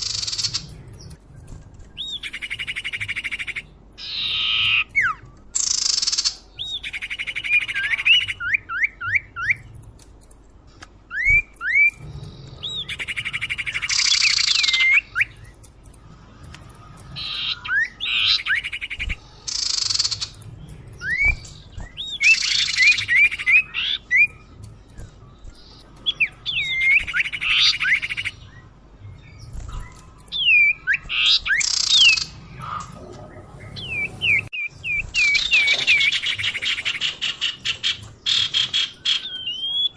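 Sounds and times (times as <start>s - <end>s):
bird harsh raspy chatter: 2.0s - 9.7s, 11.6s - 39.9s.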